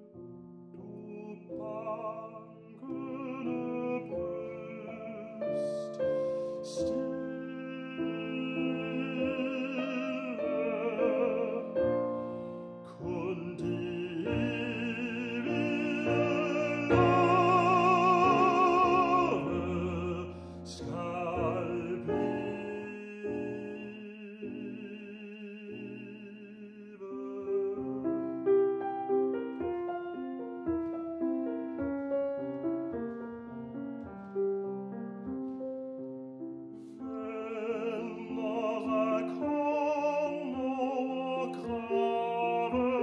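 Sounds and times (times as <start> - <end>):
grand piano: 0.0 - 43.0
tenor singing: 0.8 - 33.8, 36.8 - 43.0.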